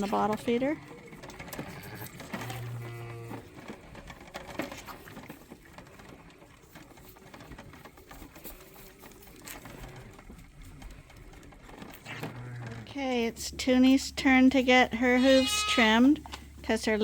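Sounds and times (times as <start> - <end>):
lambs sucking at bottle feeder: 0.0 - 17.0.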